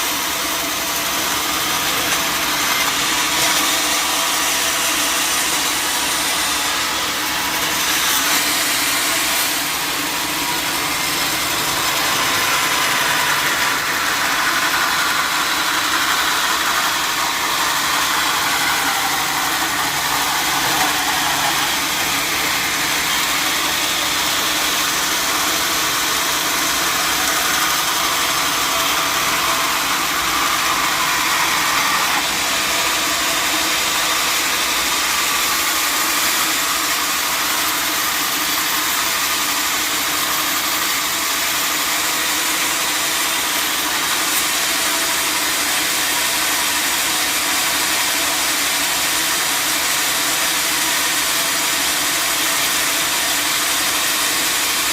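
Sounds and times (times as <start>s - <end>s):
sawmill machinery humming: 0.0s - 54.9s.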